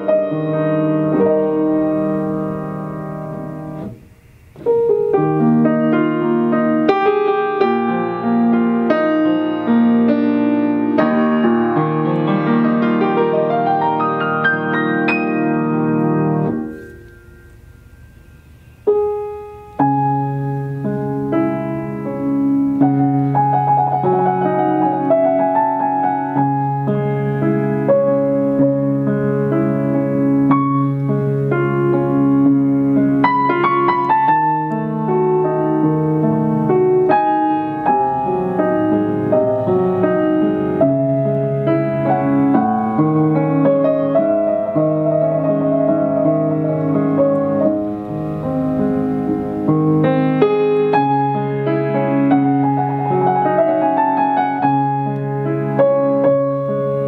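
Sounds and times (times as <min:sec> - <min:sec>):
piano chords and runs: 0:00.0 - 0:57.0.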